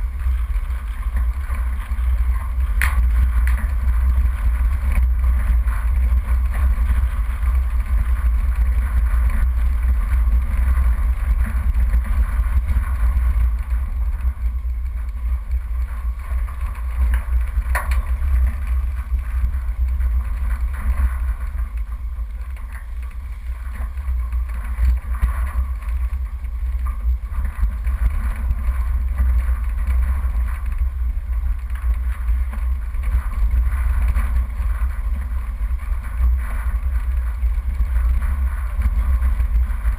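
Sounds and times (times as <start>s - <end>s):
vehicle driving on dirt track: 0.0s - 39.9s.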